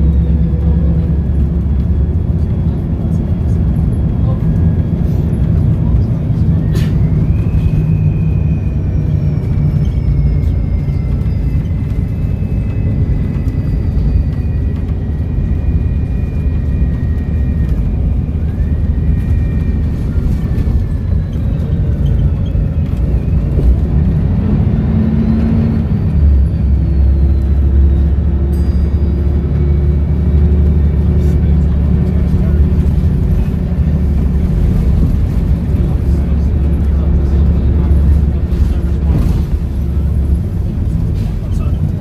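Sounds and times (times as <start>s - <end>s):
diesel bus engine rumbling: 0.0s - 42.0s.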